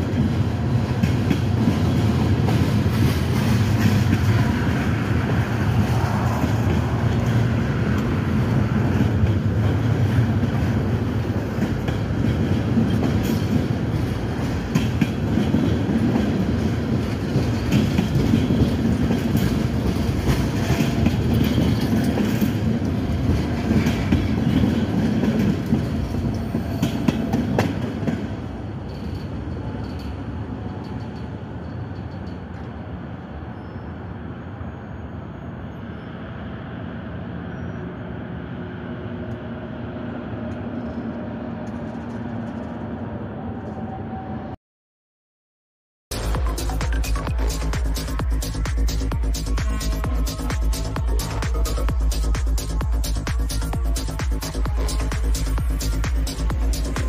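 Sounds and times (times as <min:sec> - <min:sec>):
freight train wheels rumbling: 0:00.0 - 0:44.5, 0:46.1 - 0:57.0.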